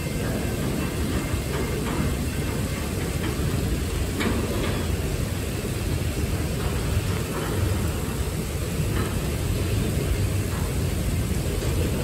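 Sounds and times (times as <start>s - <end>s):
train wheels rumbling on rail: 0.0s - 12.0s
rain hissing: 2.2s - 12.0s.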